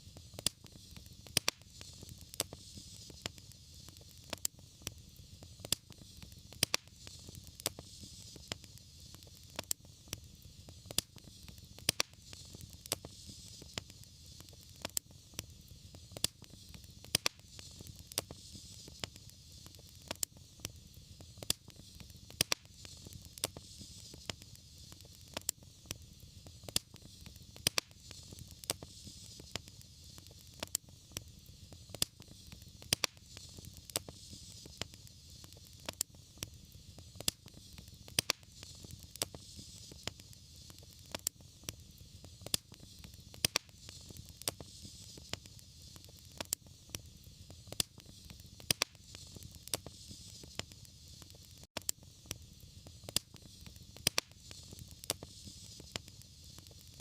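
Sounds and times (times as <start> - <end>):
fireplace fire crackling: 0.0 - 57.0
steady hiss: 0.0 - 57.0.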